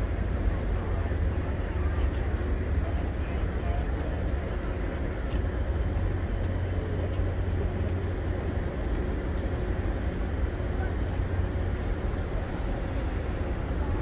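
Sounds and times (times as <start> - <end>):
ship engine rumble: 0.0 - 14.0.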